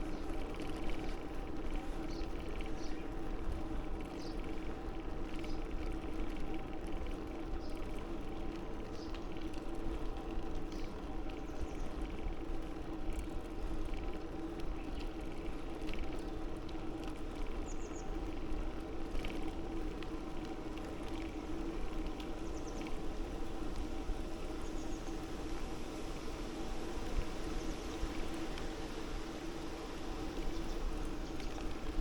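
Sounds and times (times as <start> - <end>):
bicycle rolling on road: 0.0 - 32.0.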